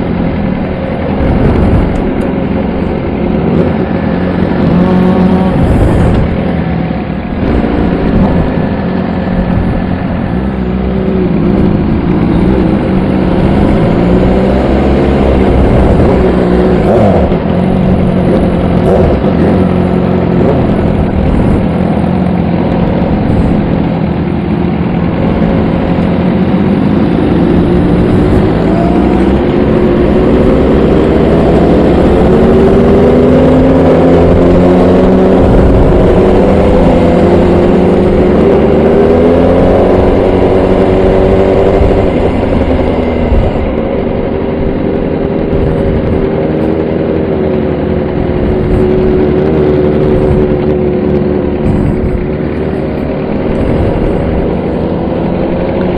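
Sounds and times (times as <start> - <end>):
motorcycle engine running: 0.0 - 55.9
steady low rumble: 0.0 - 55.9.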